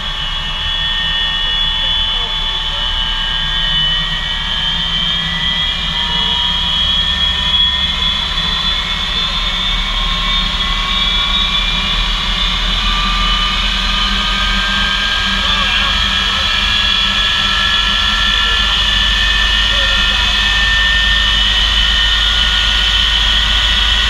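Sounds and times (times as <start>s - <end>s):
jet engine whine: 0.0s - 24.0s
low rumble: 0.0s - 24.0s.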